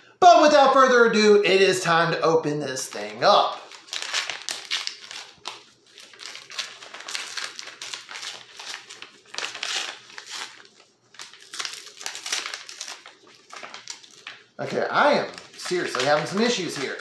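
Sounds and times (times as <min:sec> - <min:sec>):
paper envelope rustling: 0:02.8 - 0:17.0.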